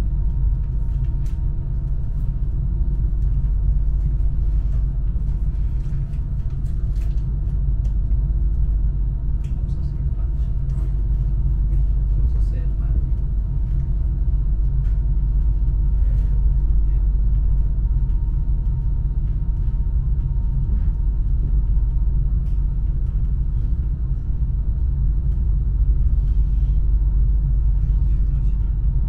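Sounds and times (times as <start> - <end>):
faint hum tones: 0.0 - 29.0
train rumble on board: 0.0 - 29.0.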